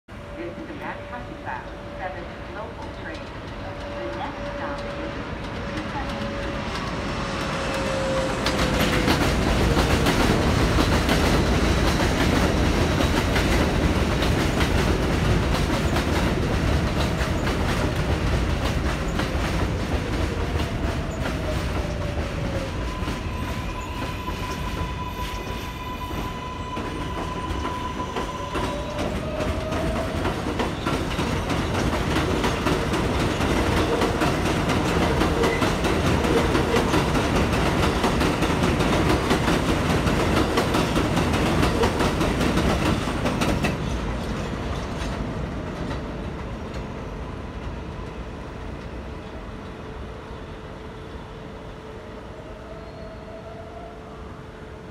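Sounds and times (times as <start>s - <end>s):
train wheels rumbling on track: 0.1s - 52.6s.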